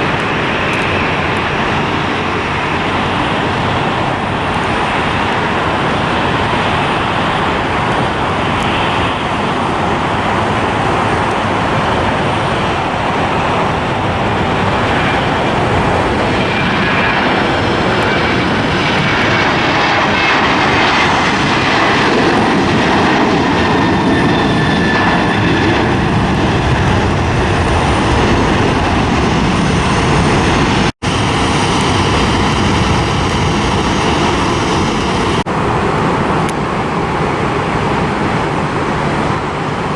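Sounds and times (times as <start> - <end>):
airliner engines roaring: 0.0 - 39.9.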